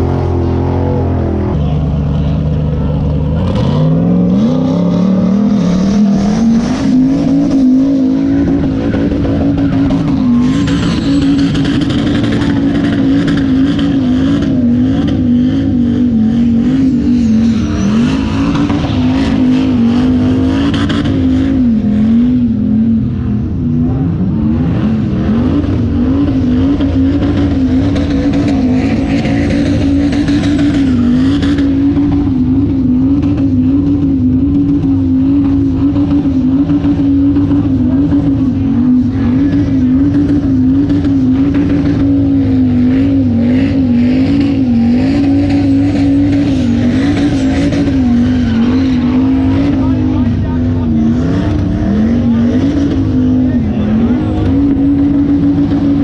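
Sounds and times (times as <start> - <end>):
tires squealing: 0.0 - 23.1, 23.7 - 56.0
car engine at high revs: 0.0 - 56.0.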